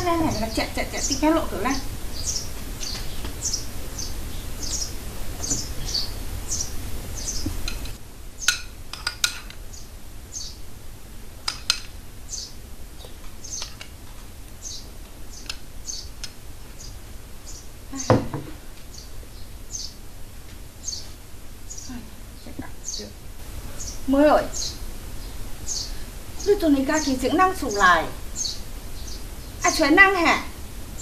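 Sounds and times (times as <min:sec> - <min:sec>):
small birds chirping: 0:00.0 - 0:10.7, 0:11.5 - 0:31.0.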